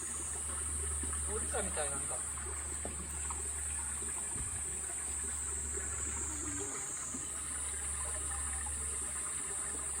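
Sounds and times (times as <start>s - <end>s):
water trickling into pond: 0.0s - 10.0s.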